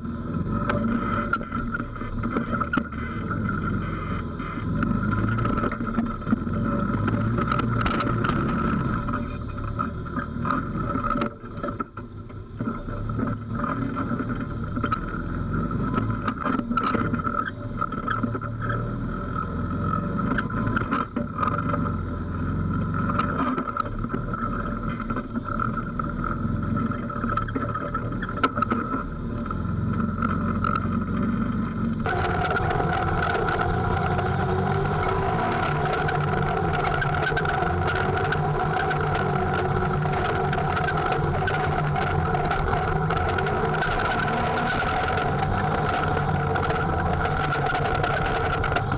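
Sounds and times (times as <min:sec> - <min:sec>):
utility vehicle engine running: 0:00.0 - 0:48.9.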